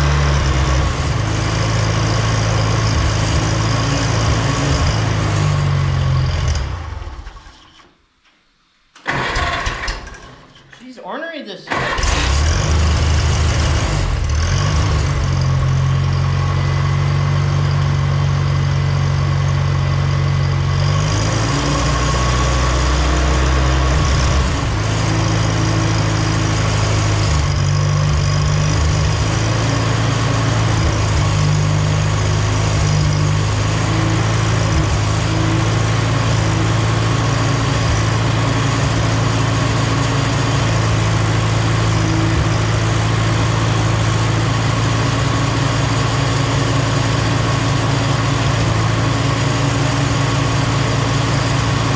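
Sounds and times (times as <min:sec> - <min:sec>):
tractor engine running: 0:00.0 - 0:08.2, 0:08.9 - 0:51.9.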